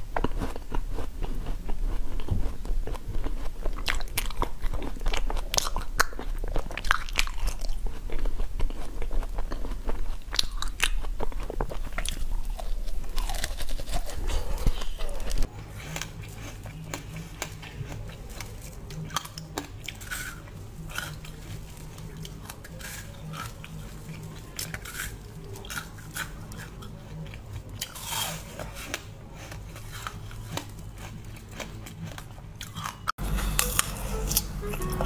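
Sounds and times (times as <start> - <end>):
chewing a bread bun: 0.0 - 34.9
low steady hum: 0.0 - 35.0.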